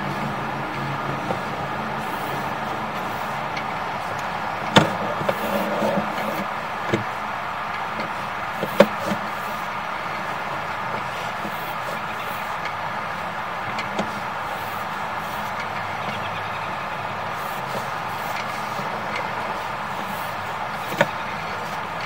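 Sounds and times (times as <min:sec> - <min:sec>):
mechanical running noise: 0:00.0 - 0:22.0.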